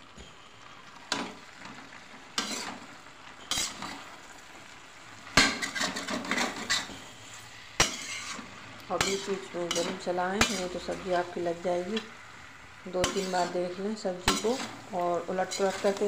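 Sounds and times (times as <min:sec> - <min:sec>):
faint sizzle: 0:00.0 - 0:16.0
metal spatula scraping a pan: 0:01.1 - 0:04.2, 0:05.4 - 0:12.2, 0:12.9 - 0:16.0.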